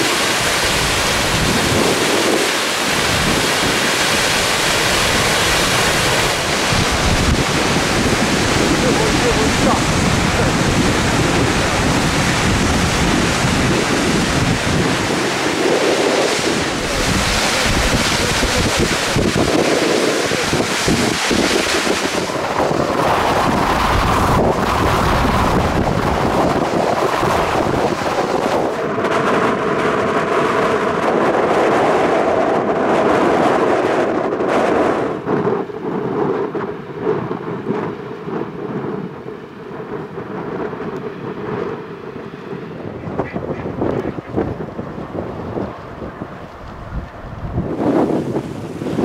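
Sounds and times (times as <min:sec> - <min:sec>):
strong wind buffeting microphone: 0:00.0 - 0:49.0.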